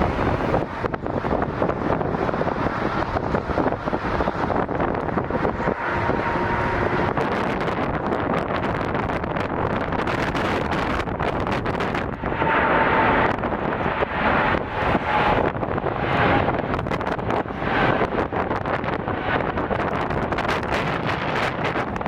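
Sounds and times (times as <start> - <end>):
jet engines: 0.0 - 22.0
wind buffeting microphone: 0.0 - 22.0.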